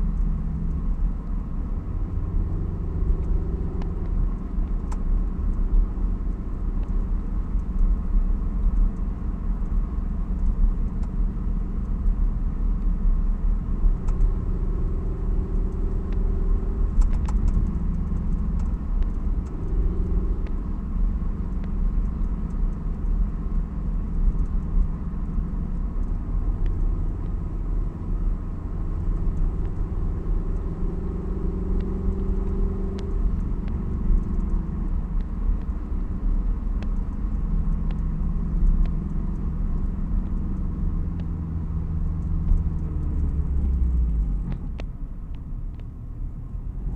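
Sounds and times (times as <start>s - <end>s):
car engine exhaust rumble: 0.0s - 46.9s
road noise: 0.0s - 46.9s.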